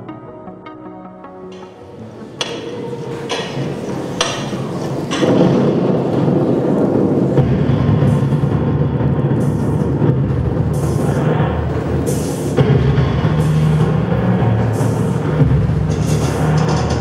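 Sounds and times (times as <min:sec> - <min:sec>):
dark rumbling soundtrack: 0:00.0 - 0:17.0
sharp hits: 0:01.5 - 0:17.0.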